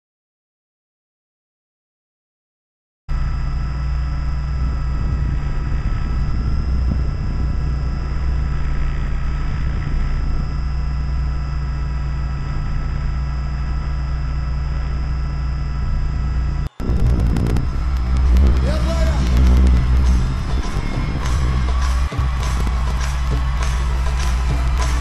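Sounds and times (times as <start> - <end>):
electric motor whine: 3.1 - 25.0
rotor and wind noise: 3.1 - 25.0.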